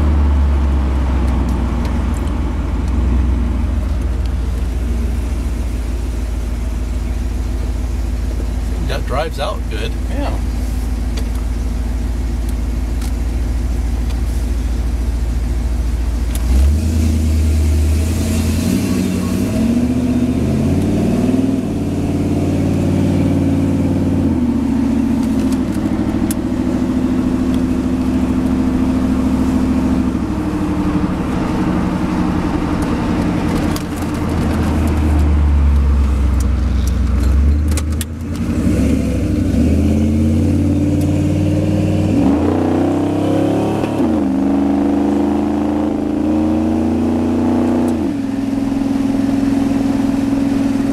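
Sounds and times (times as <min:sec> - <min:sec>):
truck engine accelerating: 0:00.0 - 0:50.9.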